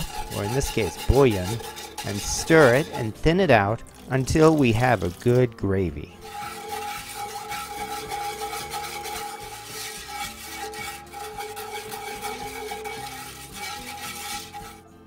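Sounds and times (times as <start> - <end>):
soft background music: 0.0 - 15.0
whisk scraping a pot: 0.0 - 15.0.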